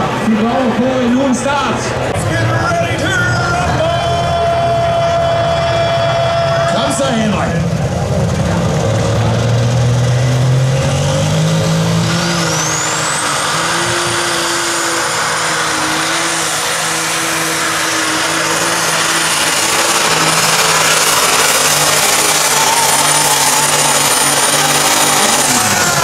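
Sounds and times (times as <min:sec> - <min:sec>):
high engine whine: 0:00.0 - 0:26.0
tractor engine running hard: 0:00.0 - 0:26.0.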